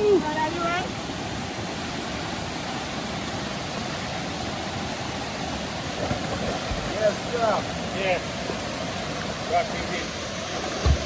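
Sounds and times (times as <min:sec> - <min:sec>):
river water rushing over cascades: 0:00.0 - 0:11.0.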